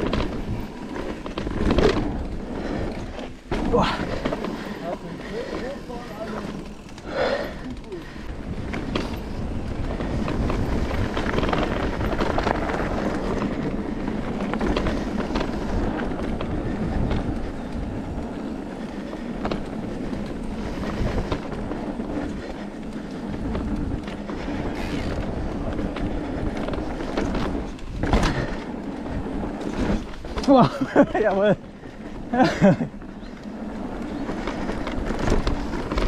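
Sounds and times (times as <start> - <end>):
bike rattling and clicking: 0.0 - 36.0
bike tyres on dirt trail: 0.0 - 36.0.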